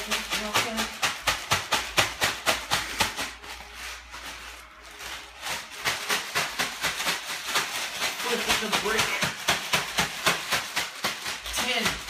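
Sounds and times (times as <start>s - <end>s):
ice cubes rattling in plastic bag: 0.0s - 12.0s.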